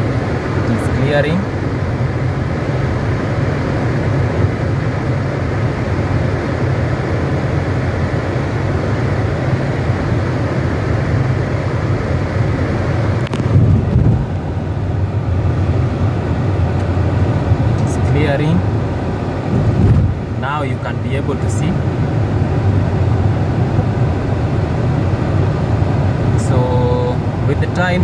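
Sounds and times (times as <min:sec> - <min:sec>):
car air blower rushing: 0:00.0 - 0:28.0.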